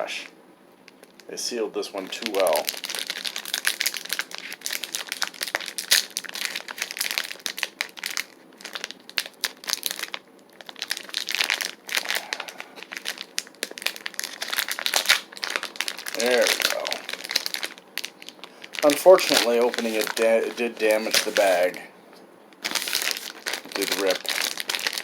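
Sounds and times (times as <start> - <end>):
plastic bag crinkling: 0.9 - 1.4, 2.0 - 21.9, 22.5 - 25.0.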